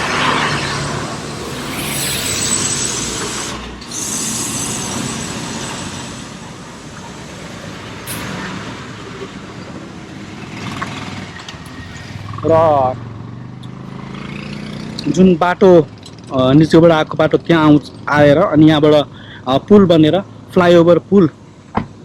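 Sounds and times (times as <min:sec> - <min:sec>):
road vehicle rushing: 0:00.0 - 0:22.0.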